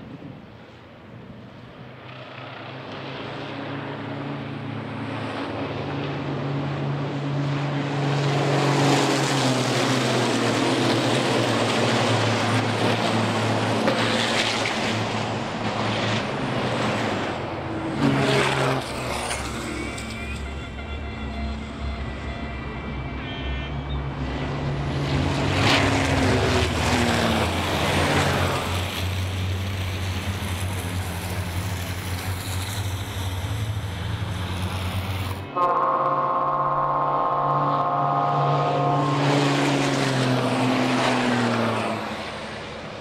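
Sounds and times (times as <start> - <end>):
race truck engines revving high: 2.6 - 43.0.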